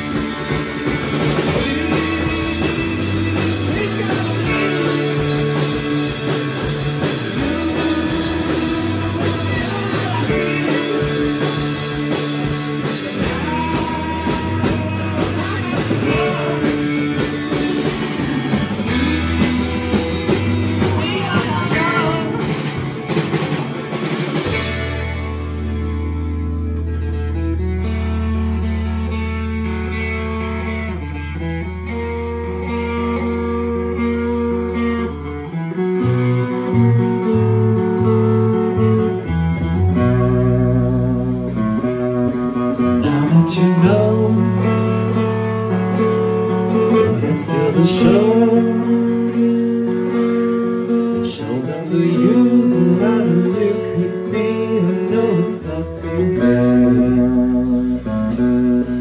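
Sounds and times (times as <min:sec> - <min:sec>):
person singing: 0:00.0 - 0:25.8, 0:36.0 - 0:59.0
bass guitar: 0:00.0 - 0:59.0
drums: 0:00.0 - 0:59.0
electric guitar: 0:00.0 - 0:59.0.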